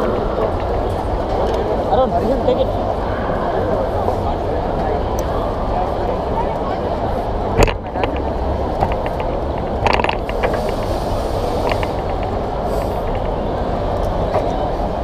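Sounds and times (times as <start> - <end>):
crowd hubbub in a large hall: 0.0 - 15.0.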